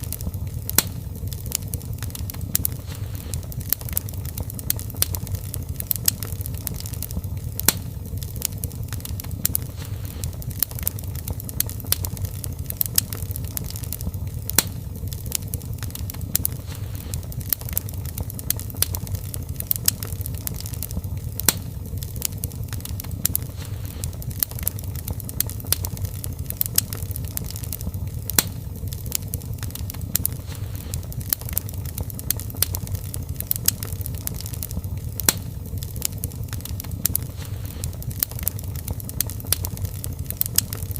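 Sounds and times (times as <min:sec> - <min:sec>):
fireplace fire crackling: 0:00.0 - 0:40.9.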